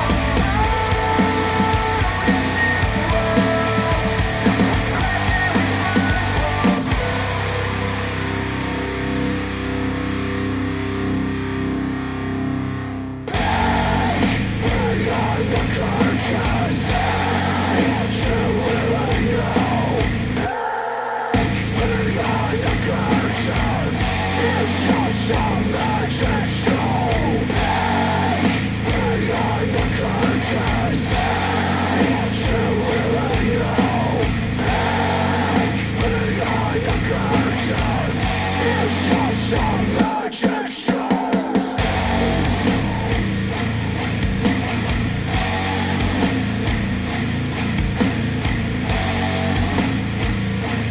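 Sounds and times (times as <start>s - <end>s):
heavy rock music over speakers: 0.0s - 50.9s.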